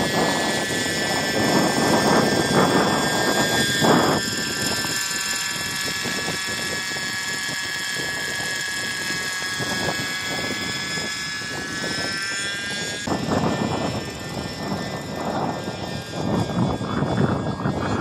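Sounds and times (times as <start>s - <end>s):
model helicopter engine whine: 0.0s - 18.0s
rotor blades rushing: 0.0s - 18.0s.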